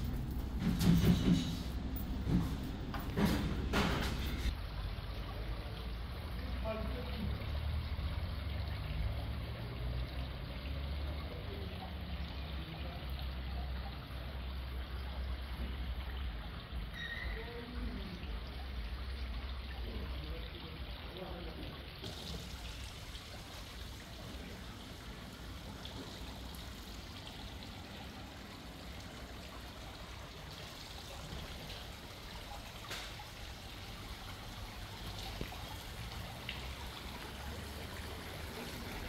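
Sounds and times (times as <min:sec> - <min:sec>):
water-like noise: 0:00.0 - 0:39.0.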